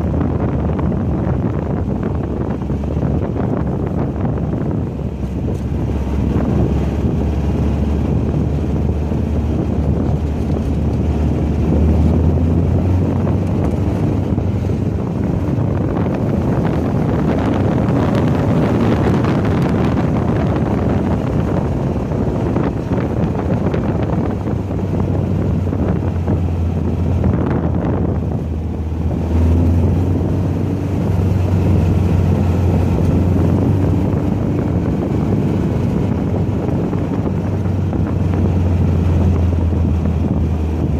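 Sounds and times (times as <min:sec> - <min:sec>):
race car engine running hard: 0:00.0 - 0:40.9
wind rushing over microphone: 0:00.0 - 0:40.9.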